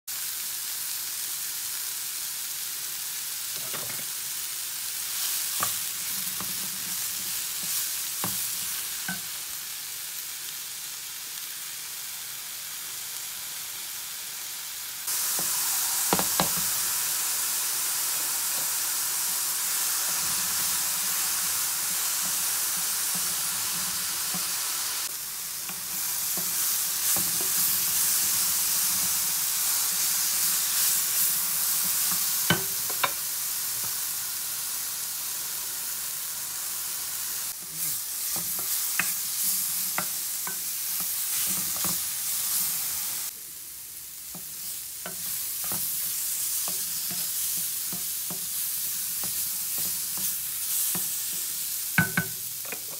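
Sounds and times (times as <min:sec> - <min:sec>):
mushrooms sizzling in a frying pan: 0:00.1 - 0:52.9.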